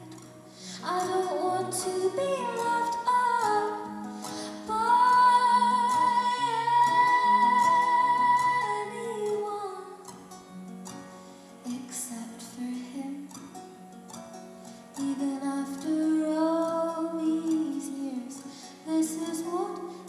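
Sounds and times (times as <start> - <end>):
woman singing: 0.0 - 10.2, 11.6 - 13.6, 14.9 - 20.0
guitar accompaniment: 0.0 - 20.0.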